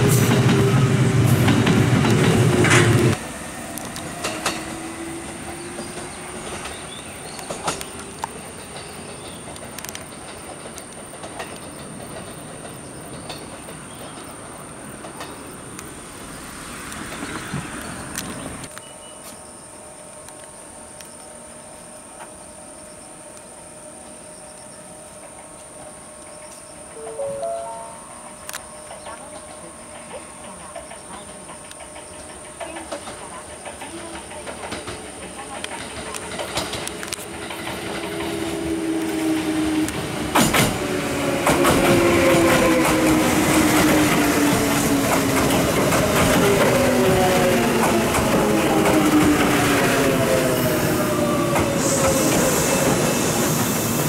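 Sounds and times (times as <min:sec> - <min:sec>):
electric train hum: 0:00.0 - 0:54.0
wheel and rail noise: 0:00.0 - 0:54.0.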